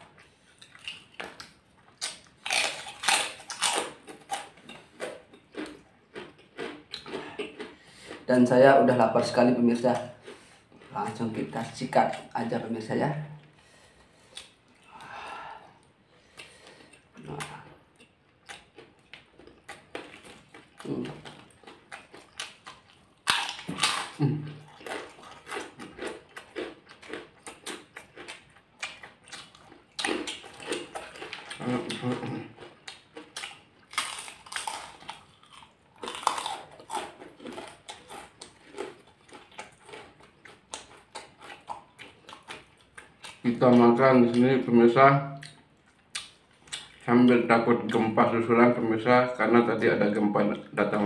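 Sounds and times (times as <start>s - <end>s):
crackers crunching: 0.0s - 44.7s
wet chewing: 0.2s - 8.6s, 13.4s - 44.6s, 45.3s - 48.0s.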